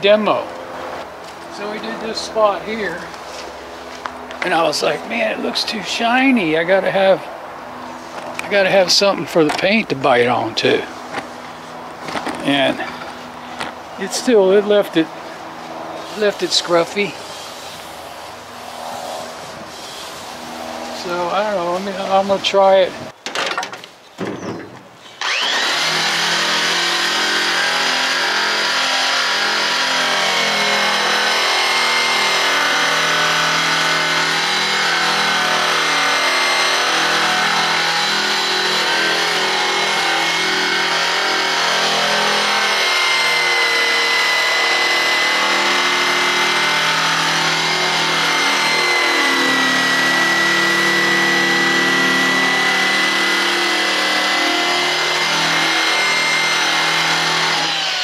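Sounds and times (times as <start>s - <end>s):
drum polisher motor whine: 0.0s - 22.8s, 25.2s - 58.0s.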